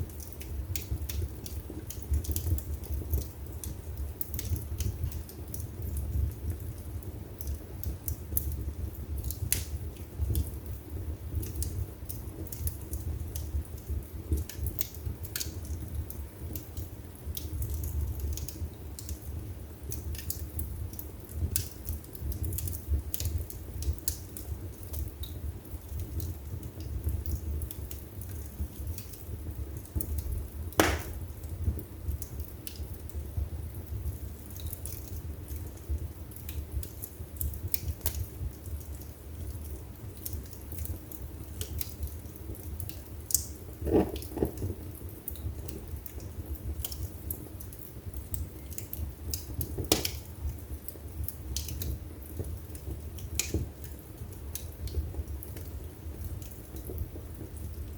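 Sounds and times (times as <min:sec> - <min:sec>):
fire crackles and snaps: 0:00.0 - 0:57.9
fireplace flames rumbling: 0:00.0 - 0:57.9.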